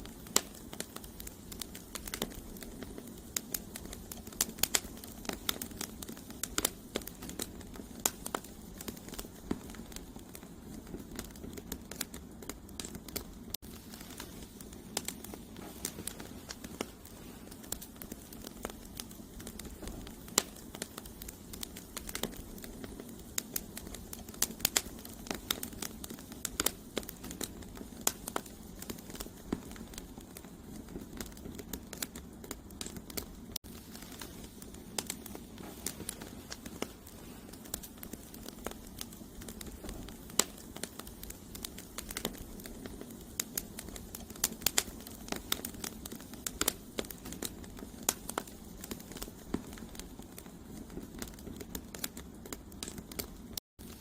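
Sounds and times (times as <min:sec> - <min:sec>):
campfire crackles and pops: 0:00.0 - 0:54.0
low rush of flame: 0:00.0 - 0:54.0.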